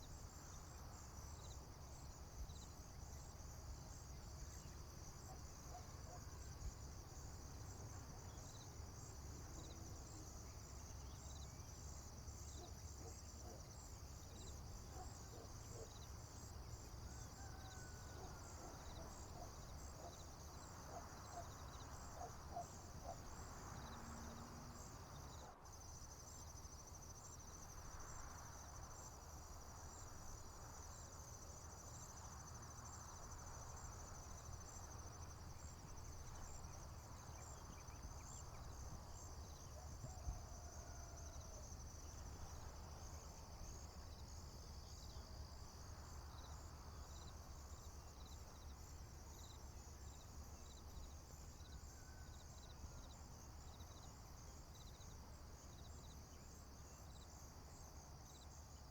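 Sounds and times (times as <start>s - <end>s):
crickets and insects chirping: 0.0s - 58.9s.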